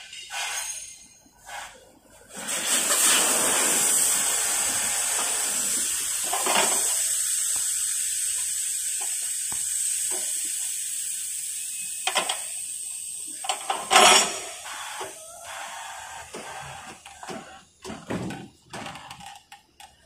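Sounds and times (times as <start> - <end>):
compressed air hissing: 0.0 - 18.1.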